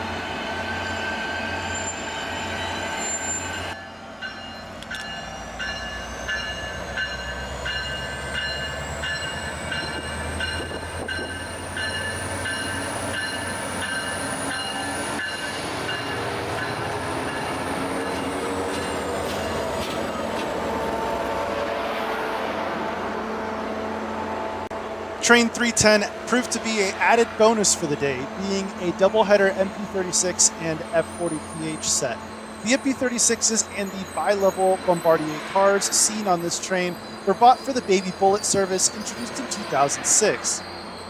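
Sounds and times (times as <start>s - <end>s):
diesel train rumble: 0.0s - 41.0s.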